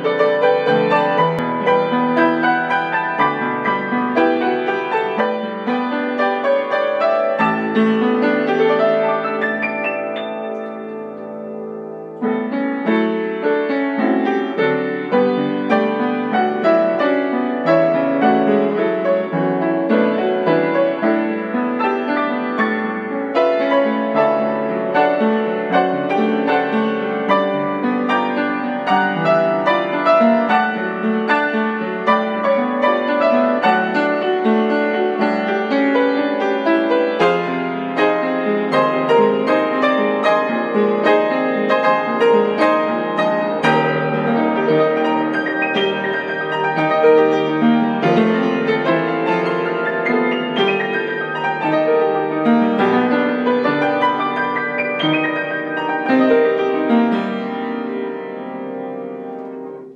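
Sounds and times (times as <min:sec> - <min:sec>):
piano playing: 0:00.0 - 0:59.9.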